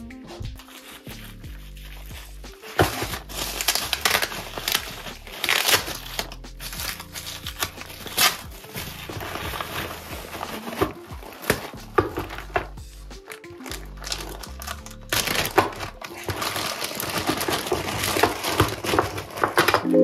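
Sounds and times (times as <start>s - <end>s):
soft background music: 0.0s - 20.0s
plastic packaging crinkling: 0.6s - 19.9s.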